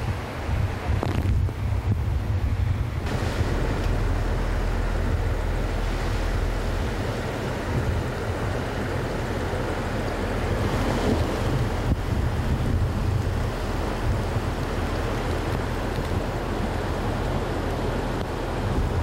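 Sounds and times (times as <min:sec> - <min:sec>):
river rushing: 0:00.0 - 0:19.0
wind buffeting microphone: 0:00.0 - 0:19.0.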